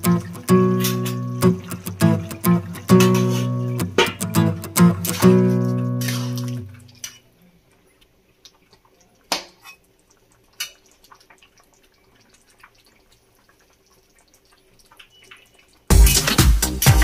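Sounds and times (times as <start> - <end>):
curry simmering ticks and pops: 0.0 - 15.9.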